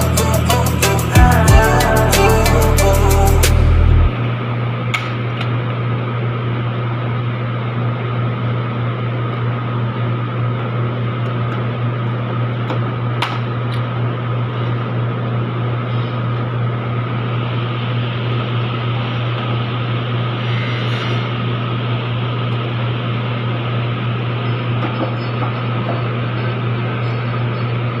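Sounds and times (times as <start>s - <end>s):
fan humming: 0.0s - 28.0s.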